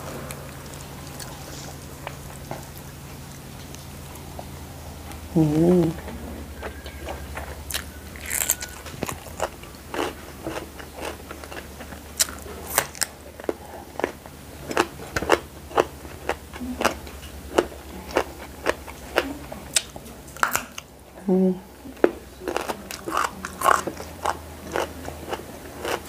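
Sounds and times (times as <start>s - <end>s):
crunching and chewing raw eggplant: 0.1s - 21.0s, 21.8s - 26.0s.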